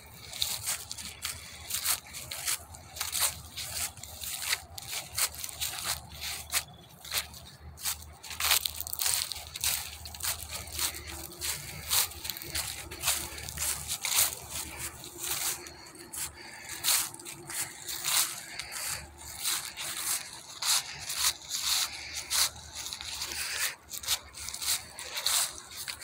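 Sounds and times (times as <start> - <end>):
rustling and scraping: 0.0 - 26.0.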